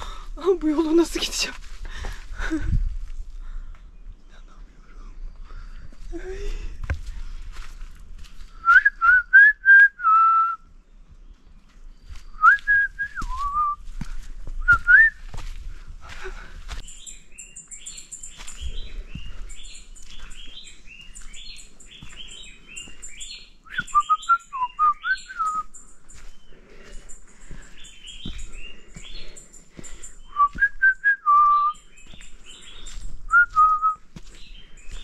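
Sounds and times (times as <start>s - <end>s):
forest birds chirping: 0.0s - 35.0s.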